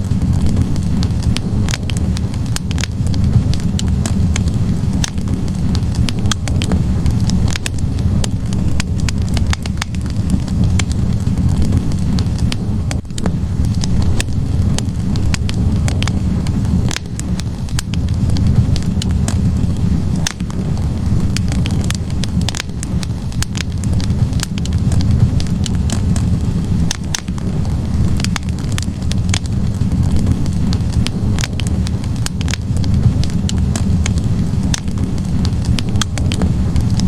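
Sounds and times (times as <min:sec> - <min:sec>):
logs crackling and popping: 0:00.0 - 0:37.0
low roar of flames: 0:00.0 - 0:37.0.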